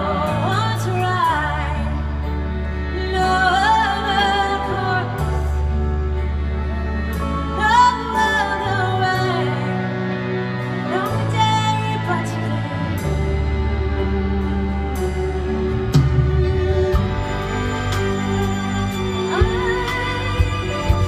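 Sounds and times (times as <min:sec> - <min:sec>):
woman singing a slow ballad: 0:00.0 - 0:15.6, 0:18.3 - 0:21.0
keyboard accompaniment: 0:00.0 - 0:21.0
low bass notes: 0:00.0 - 0:21.0.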